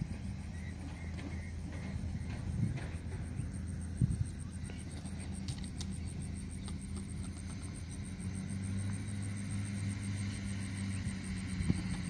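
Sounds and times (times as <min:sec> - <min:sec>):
insect chirping: 0:00.0 - 0:12.0
motor humming: 0:00.0 - 0:12.0.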